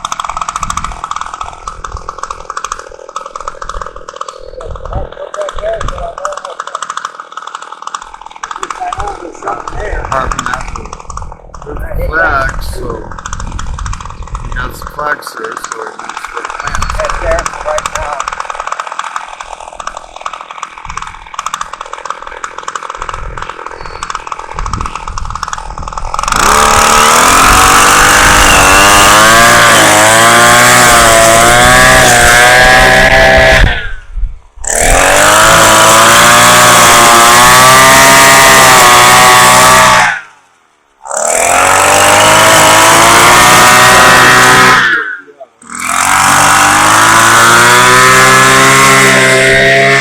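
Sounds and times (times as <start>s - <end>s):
string trimmer engine running: 0.0s - 45.0s, 45.6s - 50.0s.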